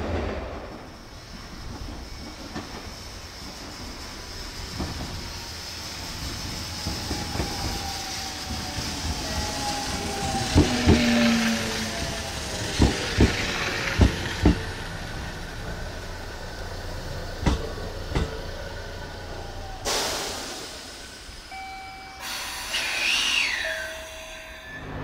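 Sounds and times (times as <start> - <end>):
train wheels clicking over rail joints: 0.0 - 21.4.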